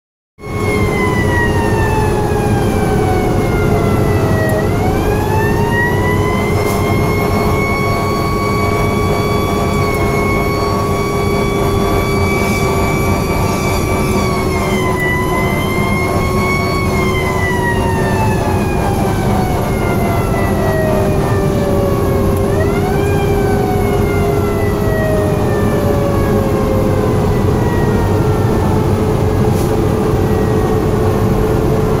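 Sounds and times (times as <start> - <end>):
mechanical siren wailing: 0.4 - 32.0.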